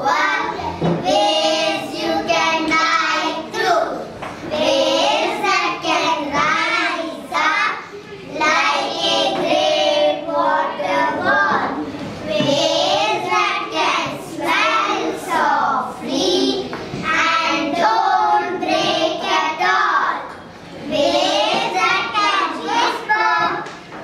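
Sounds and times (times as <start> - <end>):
children reciting in unison: 0.0 - 23.8.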